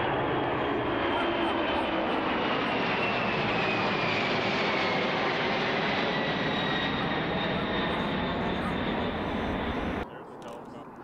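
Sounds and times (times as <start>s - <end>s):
jet engine roar: 0.0s - 11.0s
jet engine whine: 0.0s - 11.0s.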